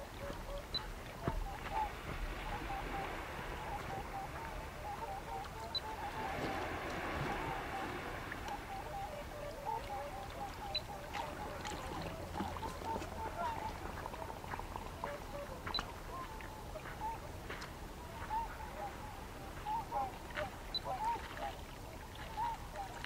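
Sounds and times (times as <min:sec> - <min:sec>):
waterfowl calling: 0:00.0 - 0:23.0.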